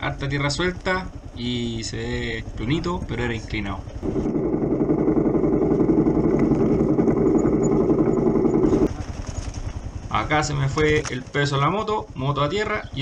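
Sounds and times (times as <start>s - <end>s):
motorcycle engine running hard: 0.0s - 13.0s.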